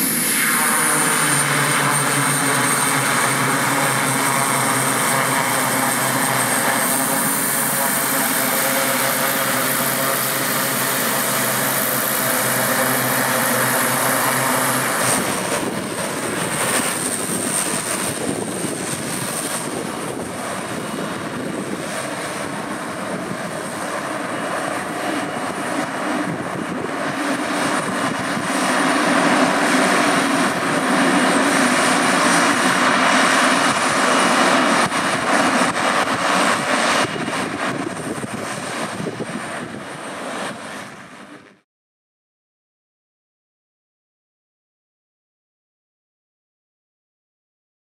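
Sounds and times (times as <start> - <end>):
propeller noise: 0.0 - 41.6
turboprop engine turbine whine: 0.0 - 41.6.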